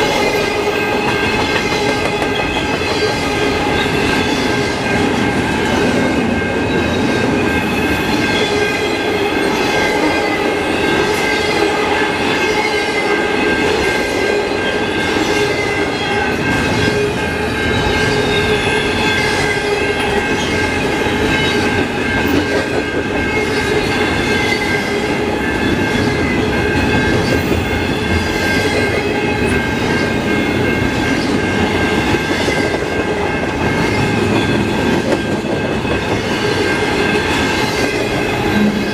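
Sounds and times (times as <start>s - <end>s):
steady high ringing tones: 0.0s - 38.9s
train wheels clattering on rail: 0.0s - 38.9s.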